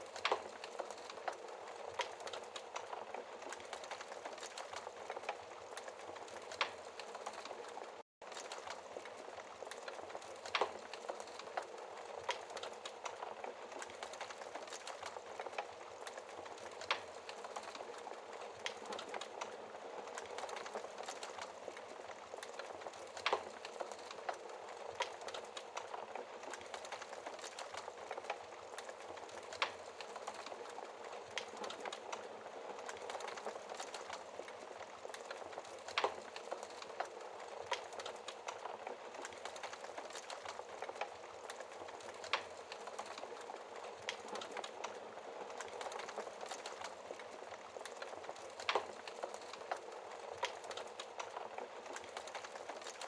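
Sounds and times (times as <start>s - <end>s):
burning logs popping: 0.0s - 53.0s
wood fire crackling: 0.0s - 53.0s.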